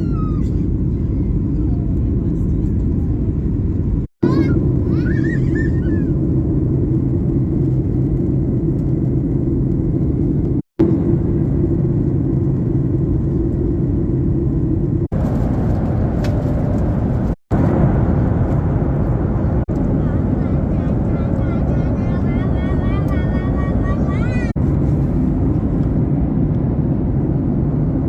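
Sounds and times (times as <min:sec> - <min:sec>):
jet engine and airflow rumble: 0:00.0 - 0:28.0
low hum: 0:00.0 - 0:28.0.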